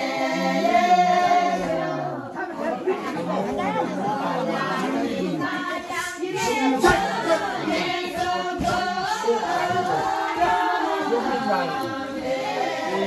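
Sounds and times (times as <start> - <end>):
group of people singing in chorus: 0.0 - 13.0.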